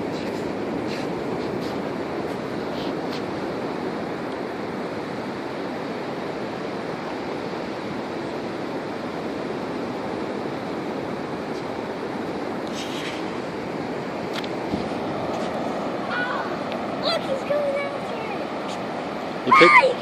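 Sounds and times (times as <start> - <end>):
ocean surf rushing: 0.0 - 20.0.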